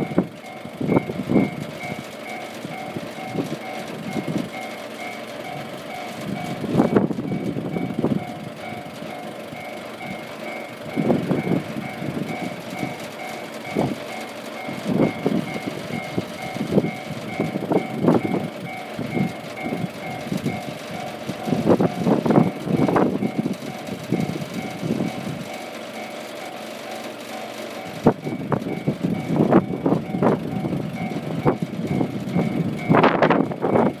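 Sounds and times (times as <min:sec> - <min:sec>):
level-crossing warning bell: 0:00.0 - 0:34.0
low rumbling and clattering: 0:00.0 - 0:34.0.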